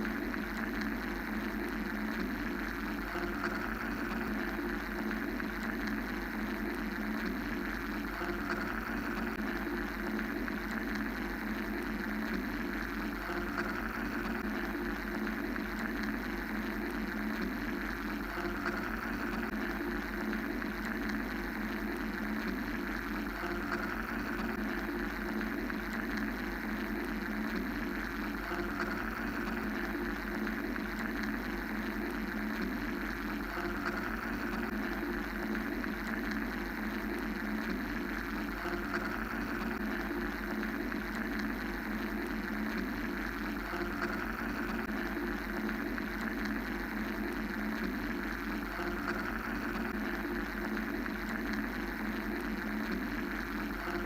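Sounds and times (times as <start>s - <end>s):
mechanical white-noise drone: 0.0s - 54.0s.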